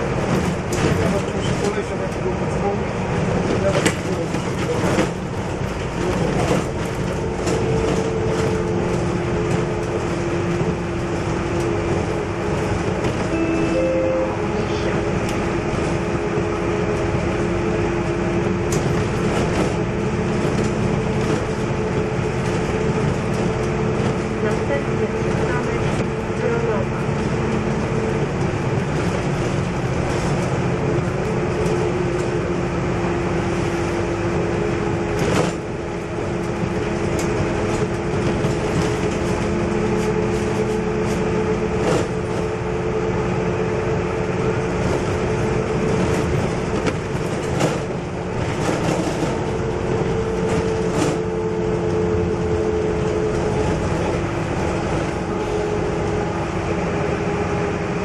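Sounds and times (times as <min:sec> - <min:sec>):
bus engine two-tone hum: 0:00.0 - 0:58.0
road noise: 0:00.0 - 0:58.0.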